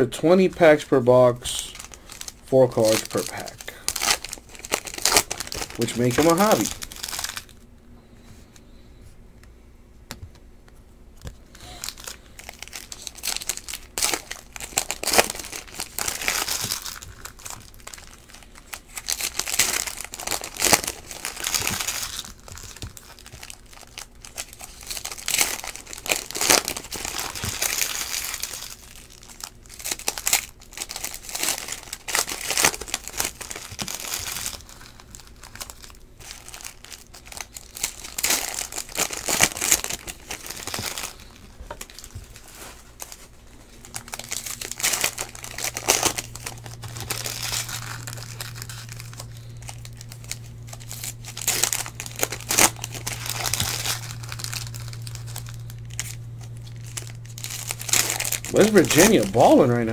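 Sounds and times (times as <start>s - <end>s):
foil packs torn and crinkled: 0.0s - 7.6s, 11.4s - 59.9s.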